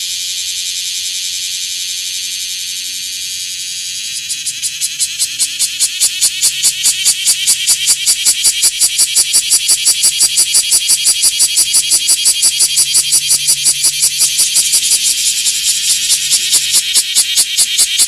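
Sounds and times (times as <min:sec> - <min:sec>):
cicadas pulsing buzz: 0:00.0 - 0:18.0.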